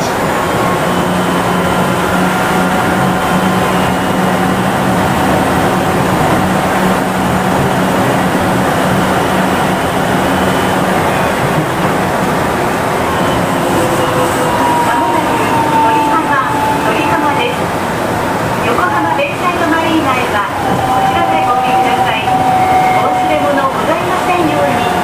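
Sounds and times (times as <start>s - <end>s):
train tyres rumbling on guideway: 0.0s - 25.0s.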